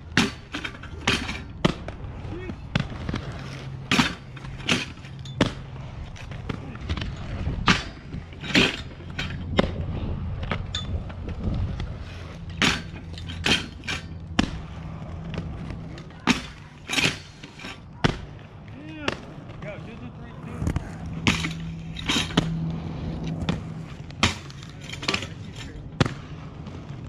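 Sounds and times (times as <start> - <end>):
skate wheels rumbling on concrete: 0.0 - 27.0
skates clacking on metal rail: 0.0 - 27.0.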